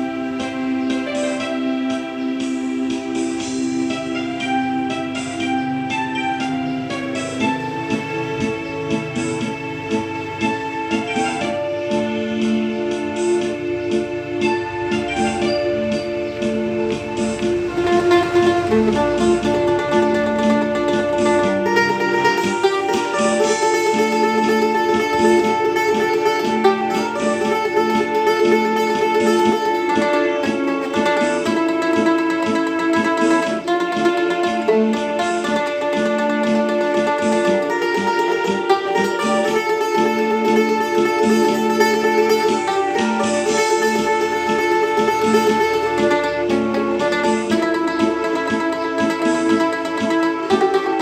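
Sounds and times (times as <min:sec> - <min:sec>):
low accompaniment: 0:00.0 - 0:51.0
mandolin melody: 0:00.0 - 0:51.0.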